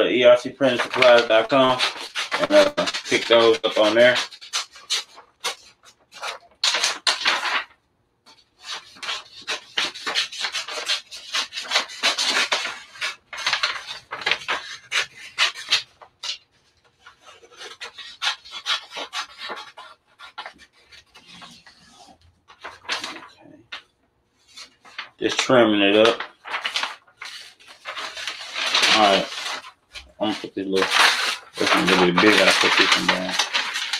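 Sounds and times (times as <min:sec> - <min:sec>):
paper rustling and scraping: 0:00.0 - 0:33.9.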